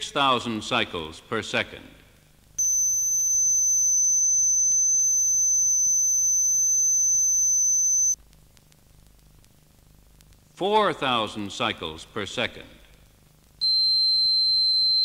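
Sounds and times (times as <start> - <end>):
faint tape hiss: 0.0 - 14.9.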